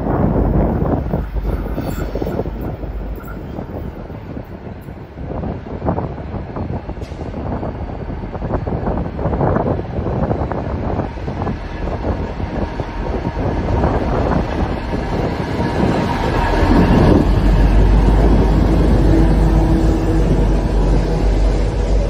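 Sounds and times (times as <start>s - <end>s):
locomotive engine drone: 0.0s - 22.0s
train wheel and rail rumble: 0.0s - 22.0s.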